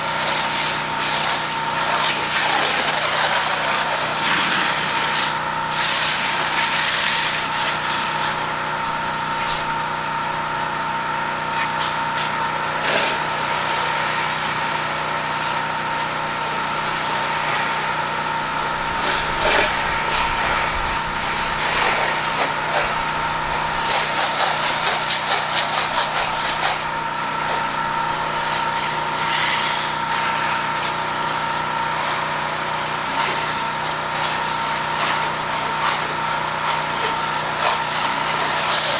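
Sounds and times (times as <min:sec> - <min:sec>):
high-pressure water spray hissing: 0:00.0 - 0:10.1, 0:11.5 - 0:38.9
pressure washer engine running: 0:00.0 - 0:38.9.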